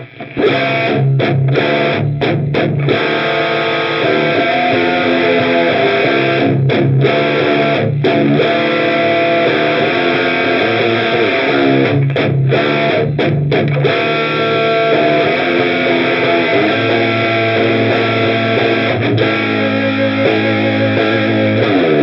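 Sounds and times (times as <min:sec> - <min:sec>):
overdriven electric guitar: 0:00.0 - 0:22.0.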